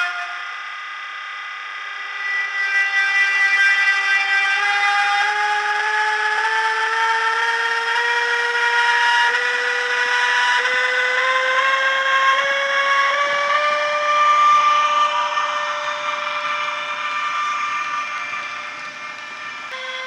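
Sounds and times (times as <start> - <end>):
electric locomotive inverter whine: 0.0 - 20.0.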